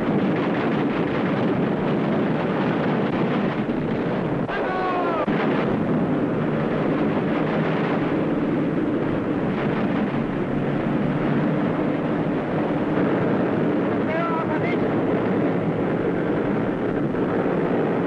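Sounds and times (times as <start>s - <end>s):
rumbling battle roar: 0.3s - 18.0s.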